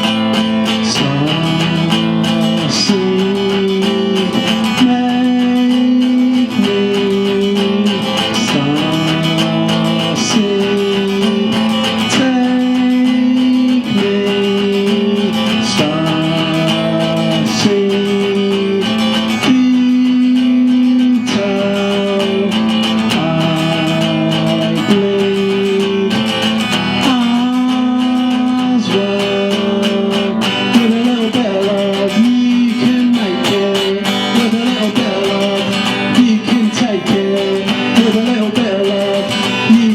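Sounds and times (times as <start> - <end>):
acoustic guitar blues: 0.0 - 39.9.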